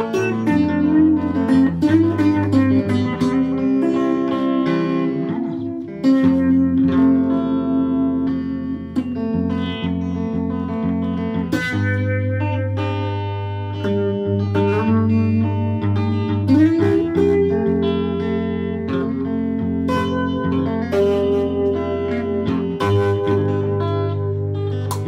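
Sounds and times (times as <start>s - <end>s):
electric guitar ringing chords: 0.0s - 25.0s.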